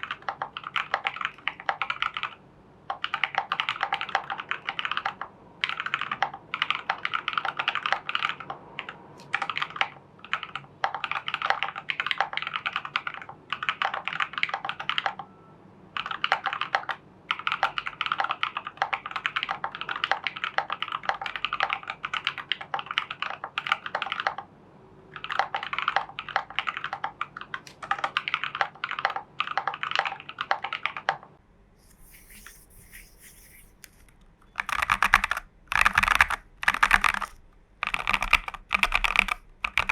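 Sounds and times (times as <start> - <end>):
mechanical keyboard typing: 0.0 - 15.4, 16.0 - 24.5, 25.2 - 31.2, 31.8 - 39.9.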